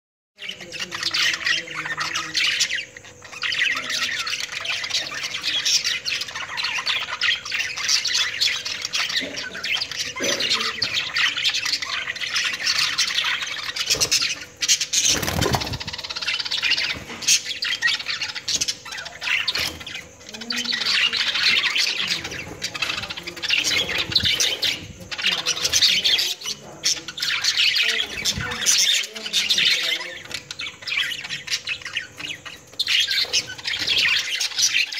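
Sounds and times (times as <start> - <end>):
budgerigars chattering and squawking: 0.4 - 34.9.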